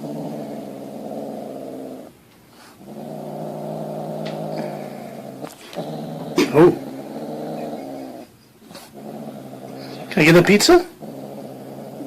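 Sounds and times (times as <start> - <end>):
pet growling low: 0.0 - 12.0.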